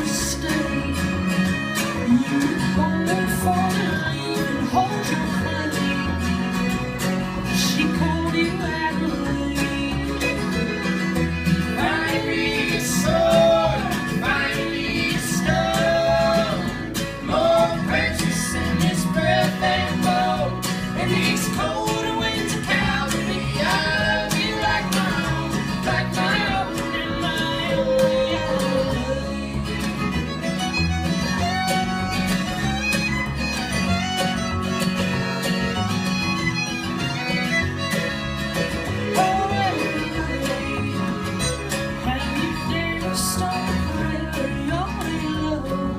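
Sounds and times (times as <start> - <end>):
fiddle melody: 0.0 - 45.9
low bass line: 0.0 - 45.9
strummed acoustic guitar: 0.0 - 45.9.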